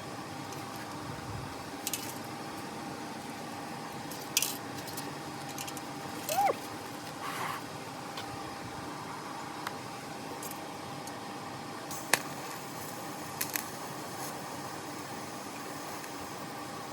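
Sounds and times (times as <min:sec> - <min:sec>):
electrical hum: 0:00.0 - 0:16.9.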